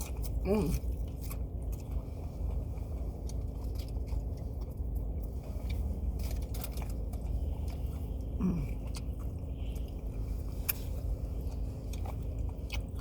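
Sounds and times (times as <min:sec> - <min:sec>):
chewing crunchy food: 0:00.0 - 0:13.0
low car cabin hum: 0:00.0 - 0:13.0.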